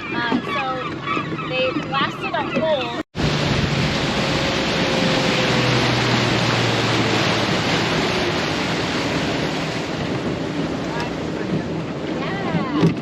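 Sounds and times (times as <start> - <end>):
boat motor running: 0.0 - 13.0
rush of wind and water: 0.0 - 13.0.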